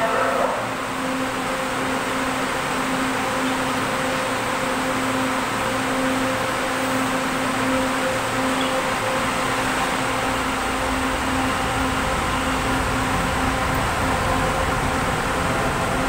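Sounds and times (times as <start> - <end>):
electric train humming: 0.0 - 16.0
fixed-pitch tones in hum: 0.0 - 16.0.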